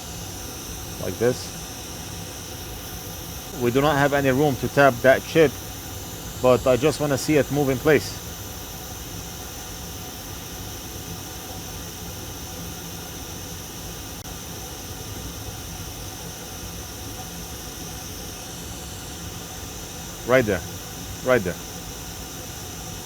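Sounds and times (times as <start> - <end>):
hot air station hissing: 0.0 - 23.0.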